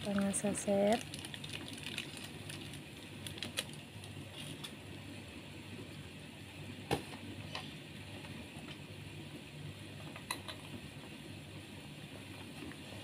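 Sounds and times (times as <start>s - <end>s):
soup boiling in a pot: 0.0s - 13.0s.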